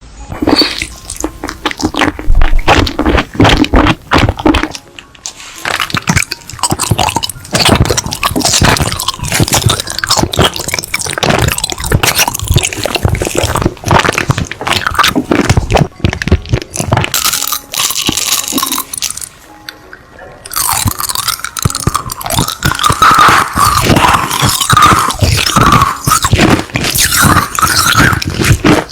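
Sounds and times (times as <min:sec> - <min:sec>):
person chewing crunchy food: 0:00.3 - 0:19.5, 0:20.5 - 0:28.9.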